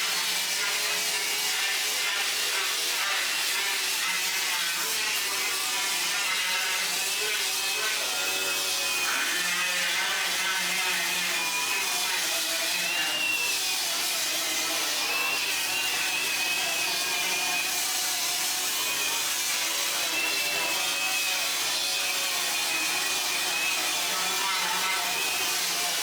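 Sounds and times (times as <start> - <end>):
power tool whining: 0.0 - 26.0.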